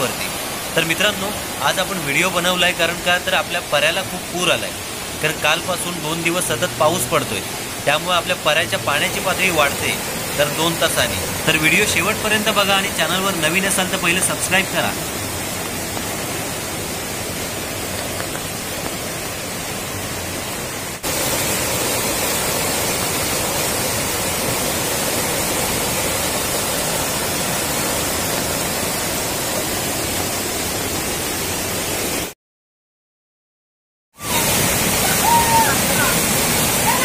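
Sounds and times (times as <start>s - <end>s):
stream rushing over rocks: 0.0s - 32.3s, 34.2s - 37.0s.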